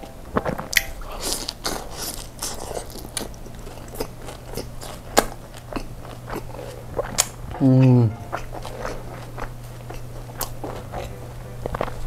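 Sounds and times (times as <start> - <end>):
crunchy chewing: 0.4 - 12.0.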